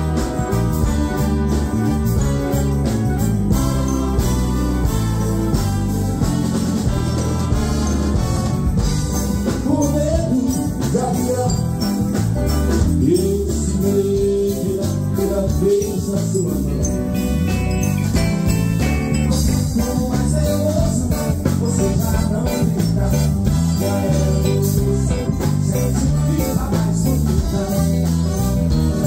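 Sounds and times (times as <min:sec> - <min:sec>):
live wind band playing: 0:00.0 - 0:29.0.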